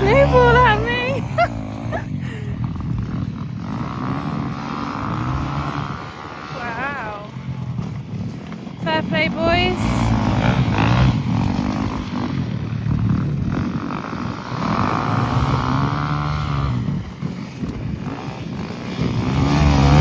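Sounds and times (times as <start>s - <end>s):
motorcycle engines racing: 0.0s - 20.0s.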